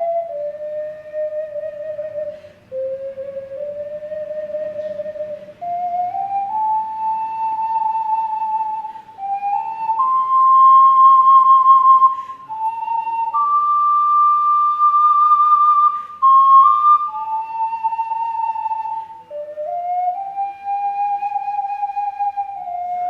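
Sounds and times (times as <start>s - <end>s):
ocarina playing slow melody: 0.0s - 23.0s.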